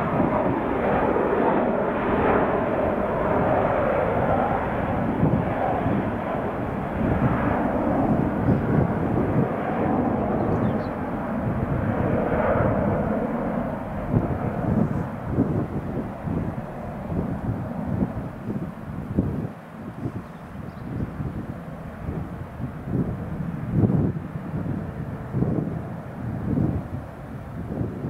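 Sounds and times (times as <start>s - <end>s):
jet airliner engines rumbling: 0.0s - 28.0s.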